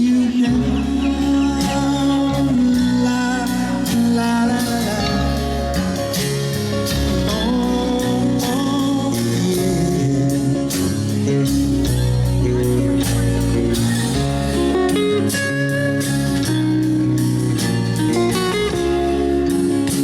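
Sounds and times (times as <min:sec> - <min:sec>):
song with singing and guitar: 0:00.0 - 0:20.0.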